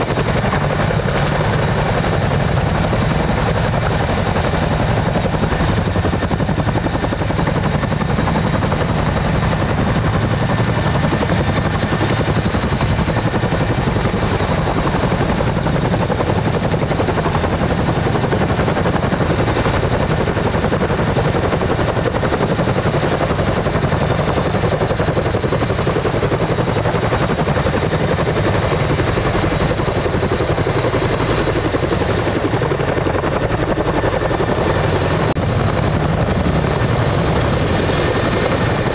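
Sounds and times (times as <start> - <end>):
helicopter rotor chop: 0.0 - 38.9.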